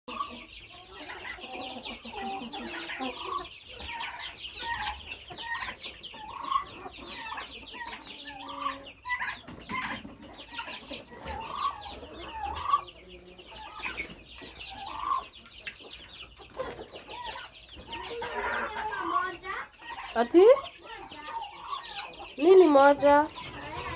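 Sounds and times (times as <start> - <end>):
chicks peeping: 0.1 - 23.9
hen clucking: 0.1 - 23.9.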